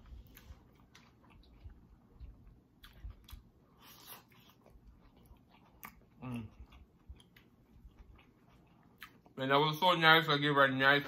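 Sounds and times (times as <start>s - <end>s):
close-miked chewing: 0.0s - 9.9s.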